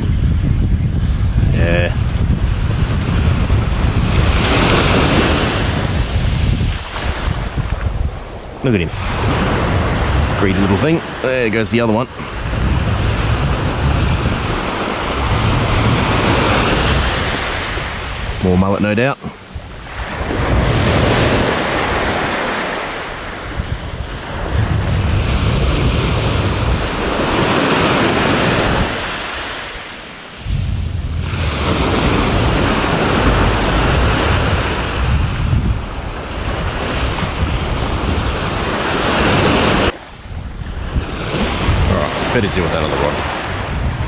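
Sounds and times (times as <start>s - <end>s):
wind buffeting microphone: 0.0s - 44.0s
small waves breaking on beach: 1.2s - 44.0s.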